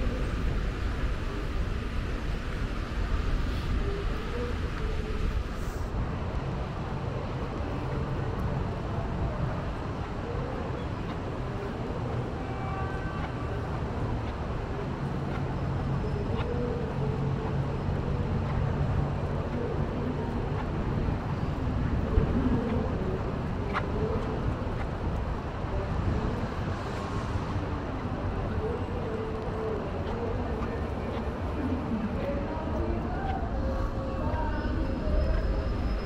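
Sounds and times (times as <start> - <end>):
distant city traffic rumble: 0.0 - 36.0.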